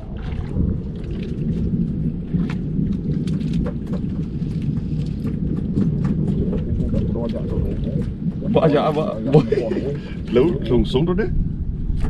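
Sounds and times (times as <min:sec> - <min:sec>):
water splashing against boat: 0:00.0 - 0:11.2
strong wind buffeting microphone: 0:00.0 - 0:12.0.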